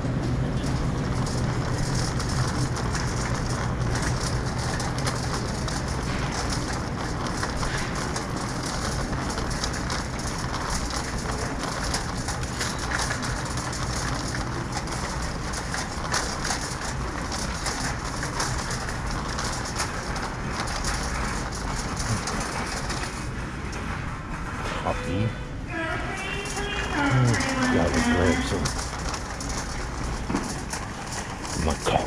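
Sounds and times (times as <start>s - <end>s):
shopping cart rattling: 0.0s - 32.0s.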